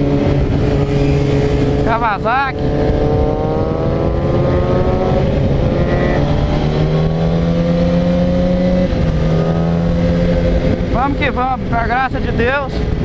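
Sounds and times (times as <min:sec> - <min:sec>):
motorcycle engine accelerating: 0:00.0 - 0:13.0
wind noise on microphone: 0:00.0 - 0:13.0.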